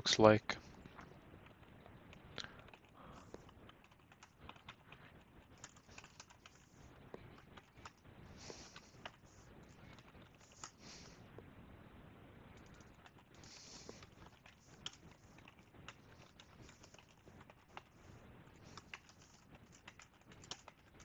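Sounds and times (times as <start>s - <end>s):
computer keyboard typing: 0.9s - 10.9s, 12.5s - 21.0s.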